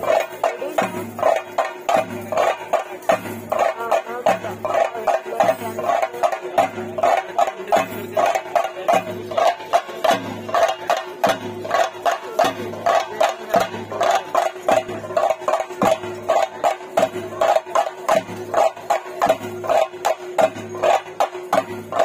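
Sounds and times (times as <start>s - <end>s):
deep drum thumps: 0.0s - 22.0s
drums beaten fast: 0.0s - 22.0s.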